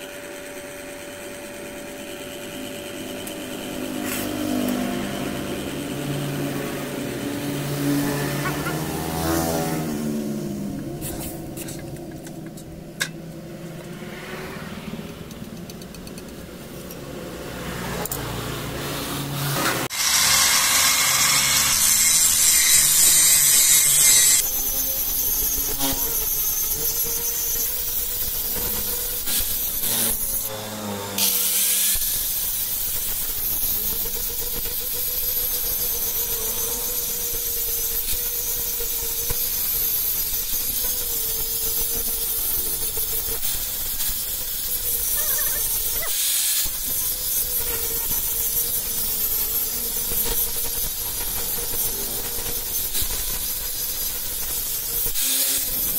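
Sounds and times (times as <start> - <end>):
angle grinder grinding metal: 0.0 - 55.9.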